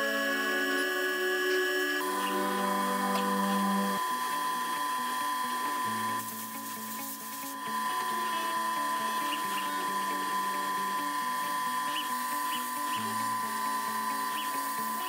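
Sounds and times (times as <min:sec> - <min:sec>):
milling spindle whining: 0:00.0 - 0:15.0.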